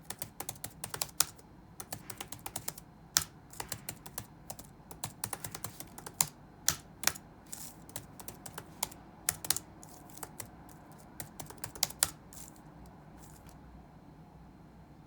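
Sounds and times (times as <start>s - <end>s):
typing on computer keyboard: 0.0s - 13.6s
low room hum: 0.0s - 15.0s.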